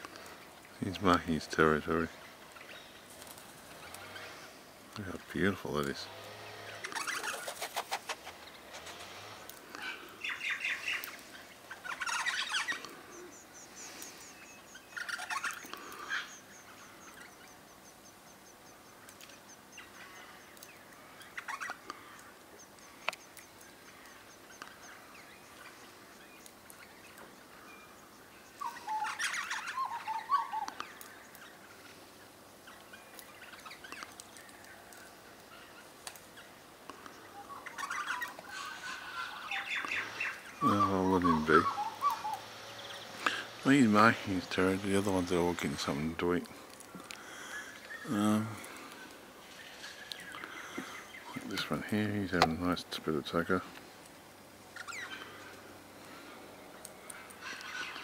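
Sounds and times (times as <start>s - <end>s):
birds chattering: 0.0s - 58.0s.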